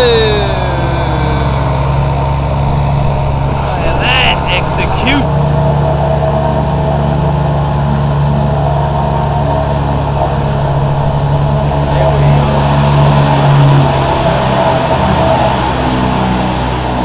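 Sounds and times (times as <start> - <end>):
outboard motors running: 0.0 - 17.0.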